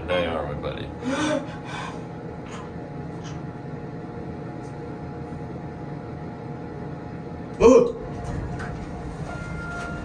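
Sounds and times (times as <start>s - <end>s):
elevator hum and rumble: 0.0s - 10.0s.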